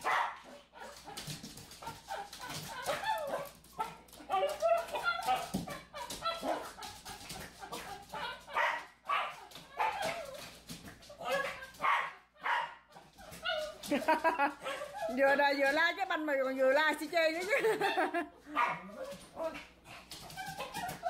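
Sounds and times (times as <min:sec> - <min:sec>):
small dog barking and yipping: 0:00.0 - 0:13.9, 0:14.6 - 0:15.2, 0:17.8 - 0:21.0.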